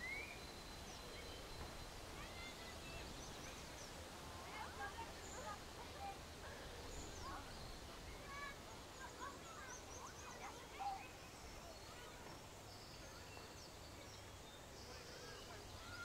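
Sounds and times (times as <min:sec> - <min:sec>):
birds chirping: 0:00.0 - 0:16.0
faint outdoor background: 0:00.0 - 0:16.0.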